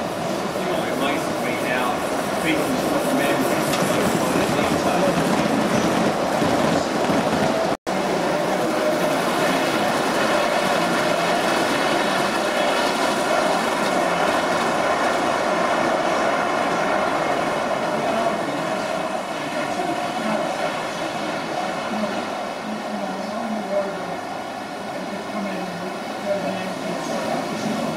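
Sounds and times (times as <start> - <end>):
model train wheels rumbling on rails: 0.0 - 27.9.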